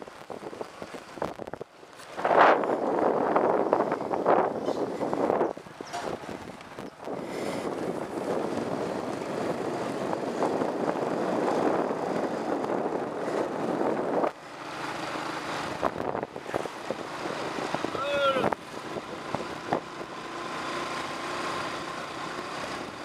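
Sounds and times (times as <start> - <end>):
wind rushing over microphone: 0.0 - 20.8.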